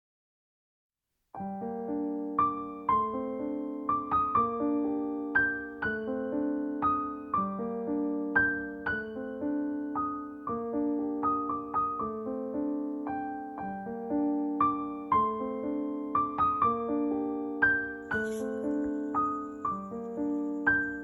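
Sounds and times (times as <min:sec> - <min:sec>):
soft piano music: 0:01.4 - 0:21.0.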